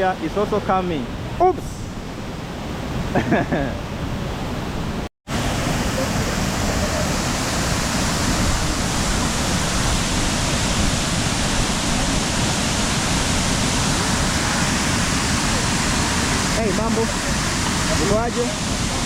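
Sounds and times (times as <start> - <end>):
waterfall roaring: 0.1 - 19.0.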